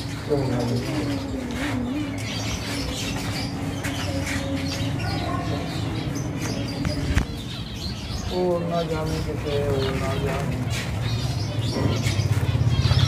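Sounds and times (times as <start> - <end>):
caged birds chirping: 0.0 - 13.0.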